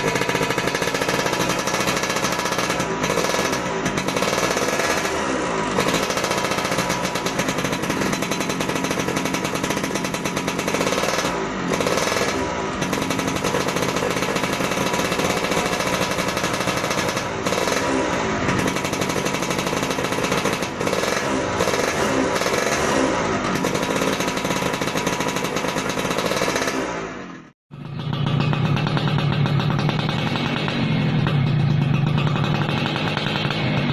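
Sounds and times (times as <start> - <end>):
two-stroke engine revving: 0.0 - 33.9.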